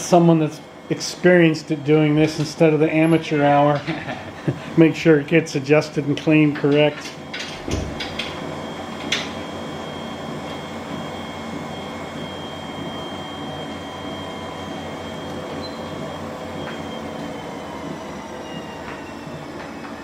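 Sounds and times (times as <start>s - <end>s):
treadmill belt rolling: 0.0s - 20.0s
treadmill motor humming: 0.0s - 20.0s.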